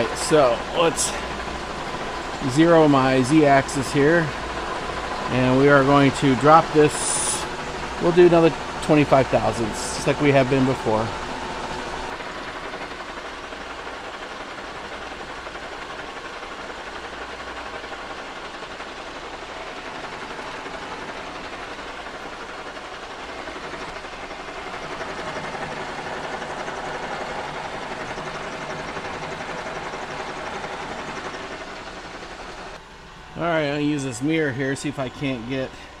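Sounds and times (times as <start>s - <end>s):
milling machine cutting metal: 0.0s - 36.0s.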